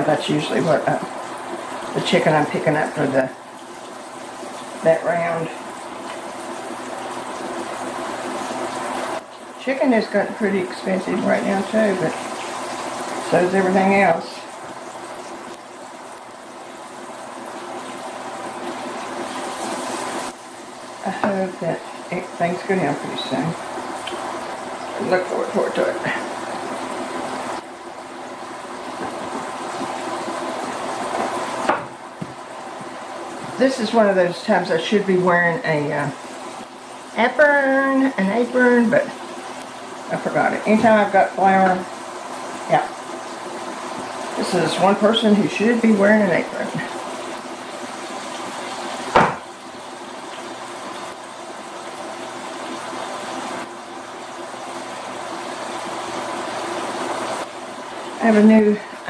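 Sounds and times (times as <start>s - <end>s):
chicken frying in a pan: 0.0s - 59.0s.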